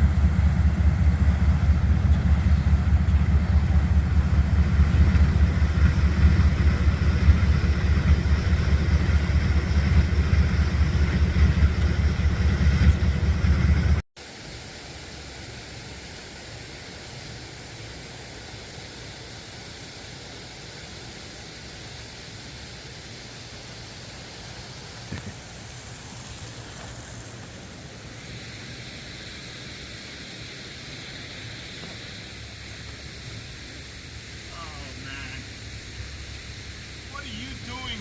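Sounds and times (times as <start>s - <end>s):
steady hissing noise: 0.0s - 38.0s.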